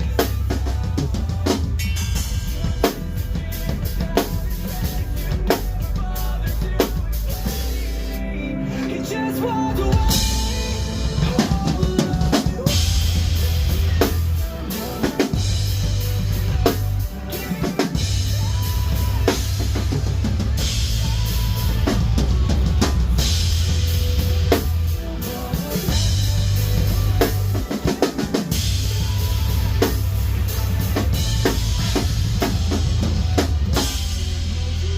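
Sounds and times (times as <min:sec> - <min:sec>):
heavy metal backing track: 0:00.0 - 0:34.9
rock drum kit played hard: 0:00.0 - 0:34.9.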